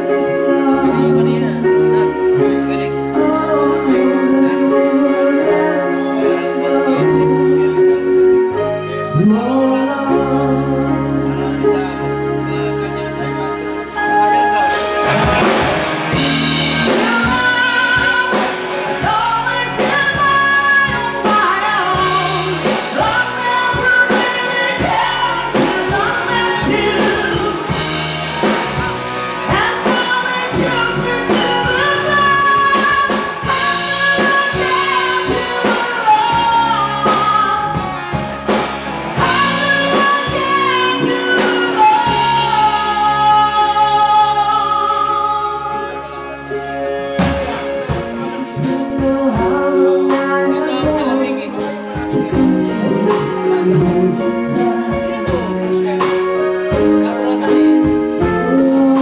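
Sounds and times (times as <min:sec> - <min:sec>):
man singing: 0:00.0 - 0:12.8, 0:14.6 - 0:28.0, 0:29.4 - 0:38.6, 0:39.2 - 0:46.4, 0:47.9 - 0:59.0
drums: 0:00.0 - 0:59.0
electric bass: 0:00.0 - 0:59.0.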